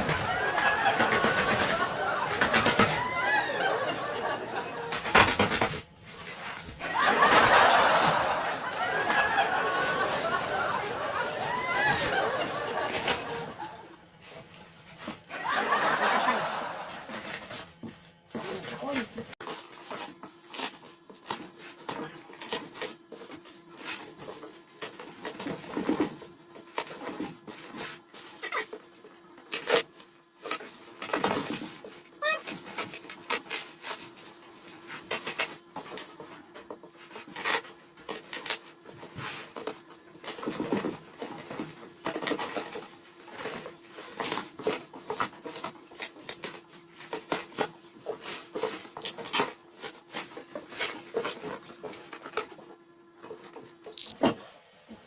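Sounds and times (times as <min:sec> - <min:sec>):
cardboard rustling and scraping: 0:00.0 - 0:54.5.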